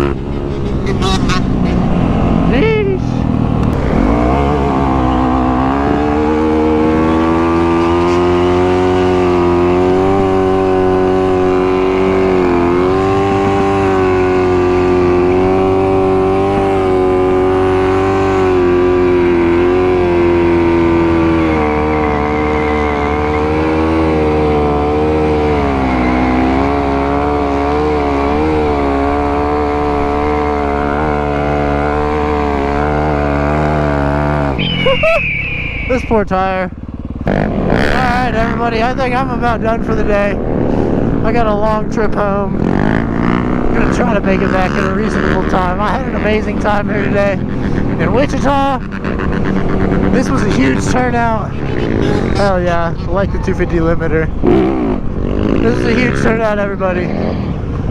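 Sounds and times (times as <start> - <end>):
vehicle engine at high revs: 0.0 - 57.9.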